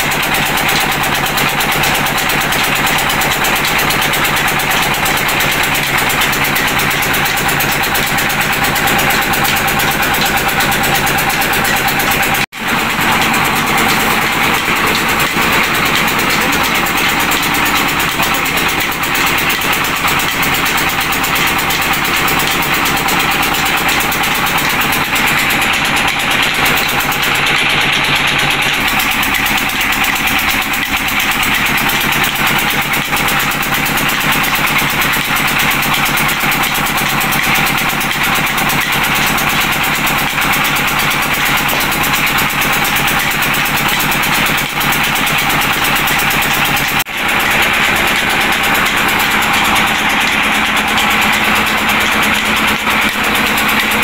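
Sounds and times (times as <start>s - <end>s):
flour mill grinding: 0.0s - 54.0s.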